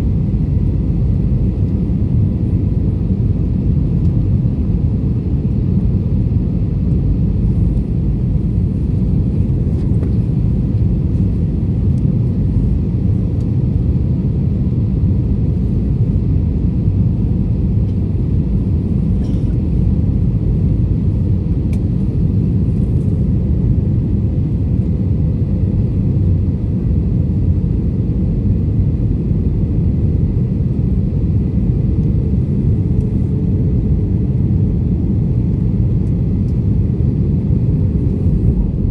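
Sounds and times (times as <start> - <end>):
airliner low rumble: 0.0 - 38.9.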